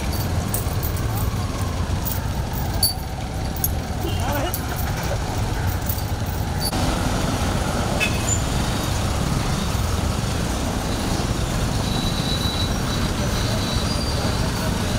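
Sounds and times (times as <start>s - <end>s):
road traffic engines: 0.0s - 14.9s.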